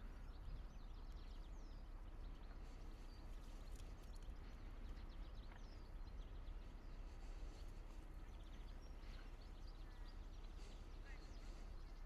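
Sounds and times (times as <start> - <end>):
low background rumble: 0.0 - 12.0
songbirds chirping and whistling: 0.0 - 12.0.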